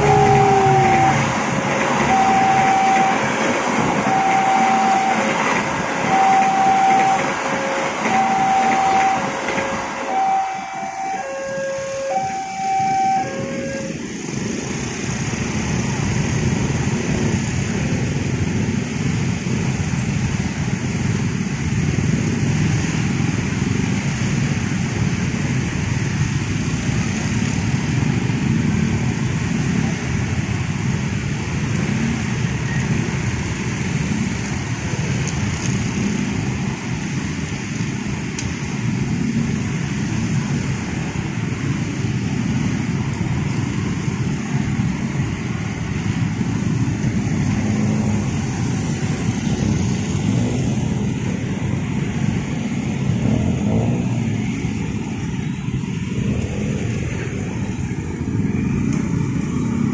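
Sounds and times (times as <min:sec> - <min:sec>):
motorcycle and scooter engines: 0:00.0 - 0:59.9.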